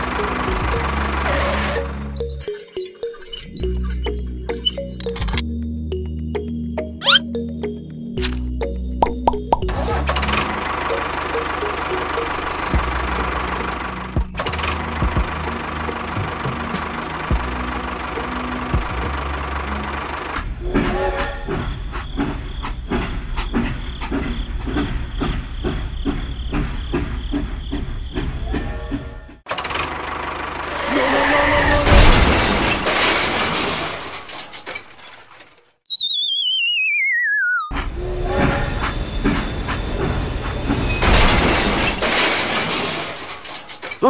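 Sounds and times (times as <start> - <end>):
train rumble with clattering: 0.0 - 5.4, 9.7 - 34.8, 37.8 - 44.0.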